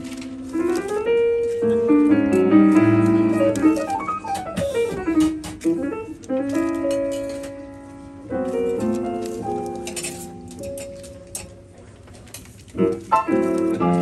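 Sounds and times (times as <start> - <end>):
jazz piano: 0.0 - 14.0.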